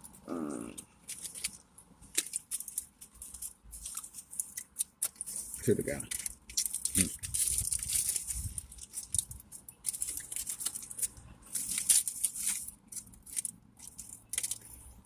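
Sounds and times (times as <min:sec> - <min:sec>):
paper wrappers rustling: 0:00.0 - 0:15.0.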